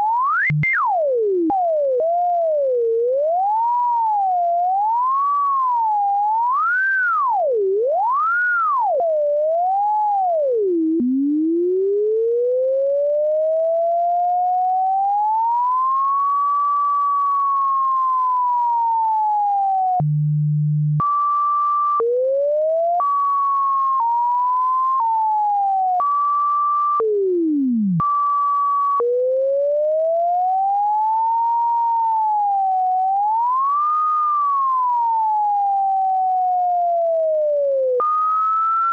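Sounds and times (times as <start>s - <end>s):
sine tone gliding in pitch: 0.0s - 38.9s.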